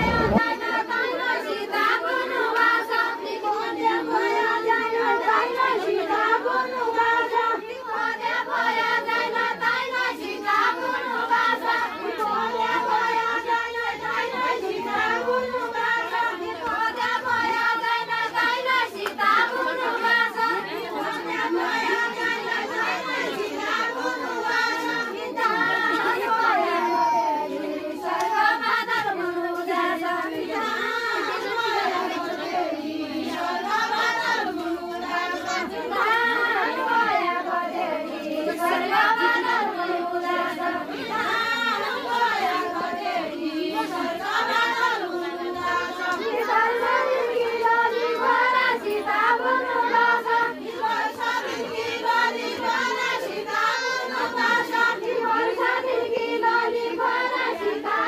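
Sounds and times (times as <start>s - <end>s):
group of women singing: 0.0s - 58.0s.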